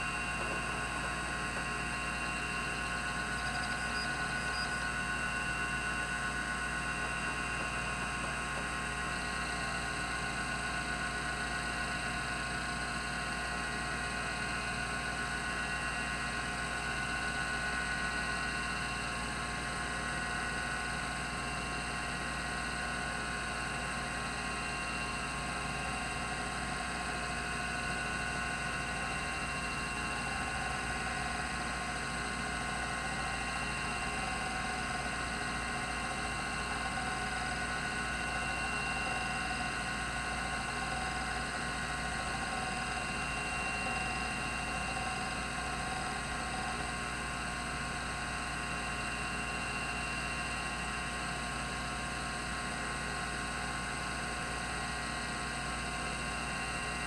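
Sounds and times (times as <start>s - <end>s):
hard drive whirring: 0.0s - 50.6s.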